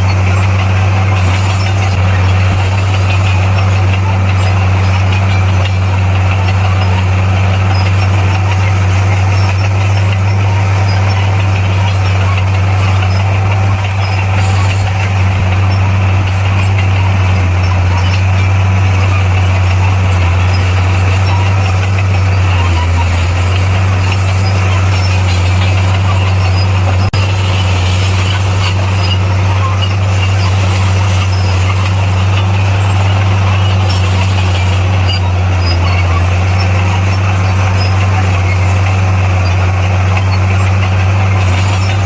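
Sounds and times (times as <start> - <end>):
bulldozer diesel engine droning: 0.0 - 42.0.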